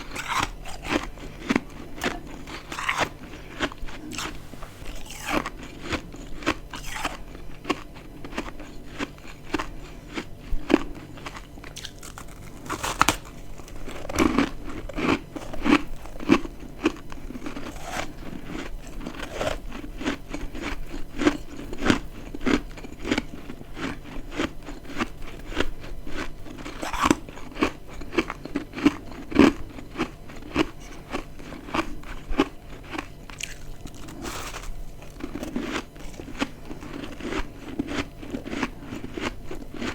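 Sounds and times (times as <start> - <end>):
crunchy ice chewing: 0.0 - 39.9.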